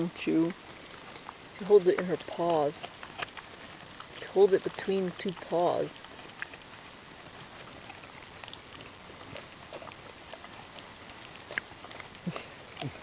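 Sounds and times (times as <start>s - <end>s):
dog gnawing on a chew: 0.0s - 13.0s.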